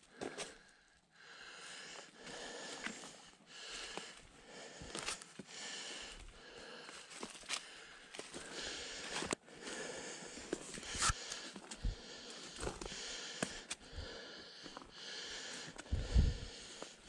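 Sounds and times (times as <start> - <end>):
heavy breathing: 0.0 - 17.0.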